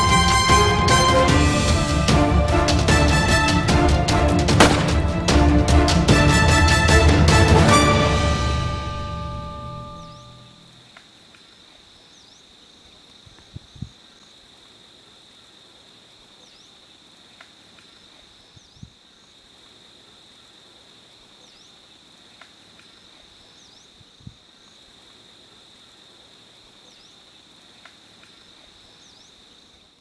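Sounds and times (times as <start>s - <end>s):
insects droning: 0.0s - 6.3s, 8.6s - 30.0s.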